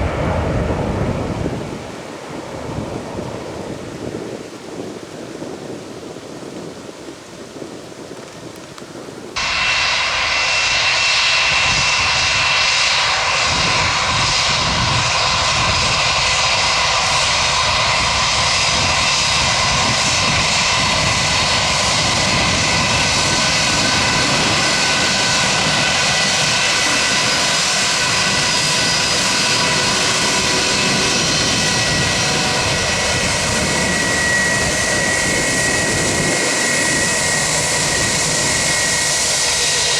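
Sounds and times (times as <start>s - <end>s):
faint wind noise: 0.0s - 39.9s
jet engines roaring and whining: 0.0s - 39.9s.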